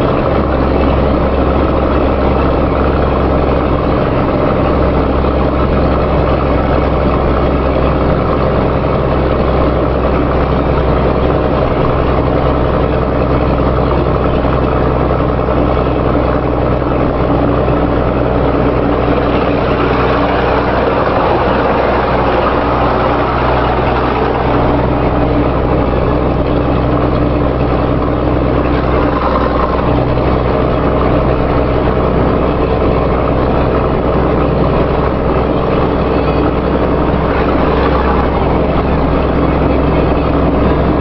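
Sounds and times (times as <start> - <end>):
engine idling with rumbling exhaust: 0.0 - 41.0.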